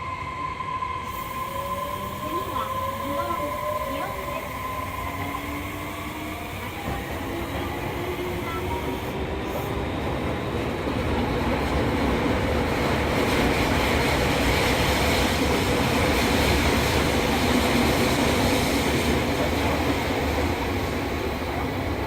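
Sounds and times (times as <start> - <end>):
subway train running through tunnel: 0.0 - 22.0.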